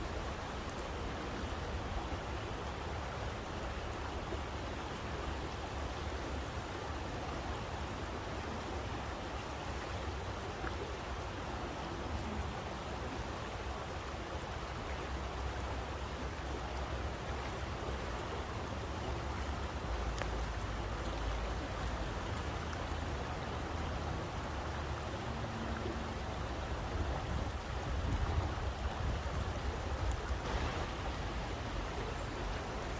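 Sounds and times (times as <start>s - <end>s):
water rushing: 0.0s - 32.9s.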